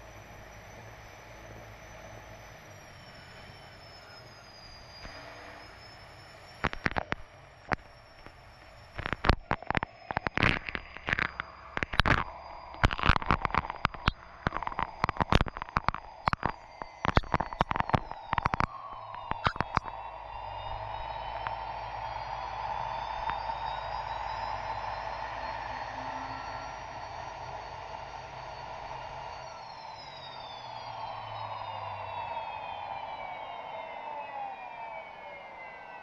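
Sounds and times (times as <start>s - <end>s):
turbine engine whine: 0.0s - 36.0s.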